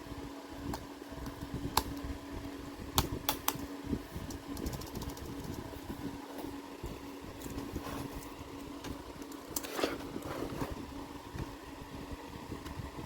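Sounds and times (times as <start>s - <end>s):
steady low hum and rumble: 0.0s - 13.0s.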